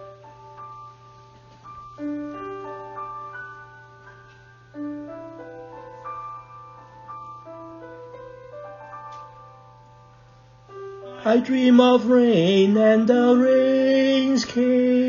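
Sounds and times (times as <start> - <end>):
slow piano playing: 0.0 - 15.0.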